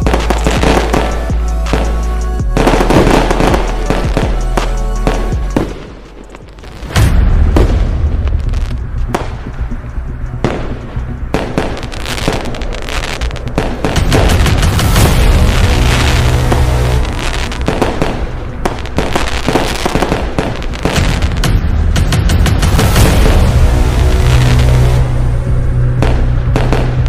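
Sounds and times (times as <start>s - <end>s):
background music: 0.0s - 27.0s
fireworks bangs and crackles: 0.0s - 27.0s.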